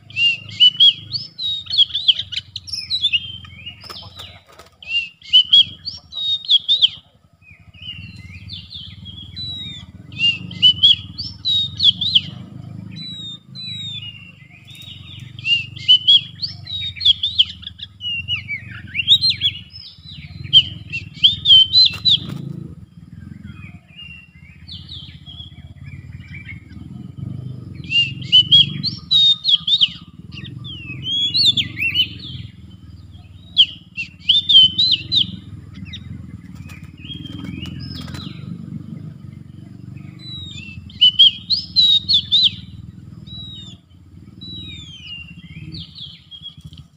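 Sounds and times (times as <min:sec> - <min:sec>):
bird singing whistles: 0:00.0 - 0:46.8
steady low rumble: 0:05.1 - 0:46.9.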